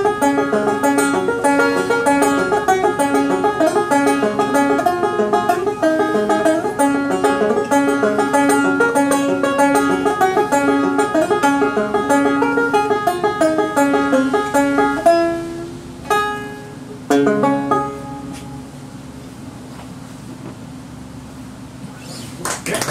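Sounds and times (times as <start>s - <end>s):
banjo chords ringing: 0.0s - 18.8s
banjo picking: 0.0s - 18.8s.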